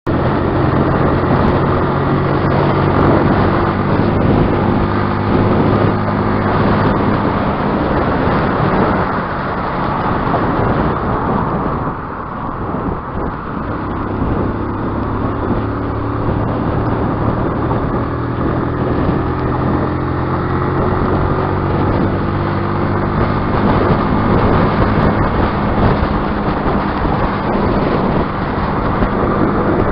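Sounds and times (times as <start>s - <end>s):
motorcycle engine running: 0.0s - 29.9s
air rushing past: 0.1s - 29.9s.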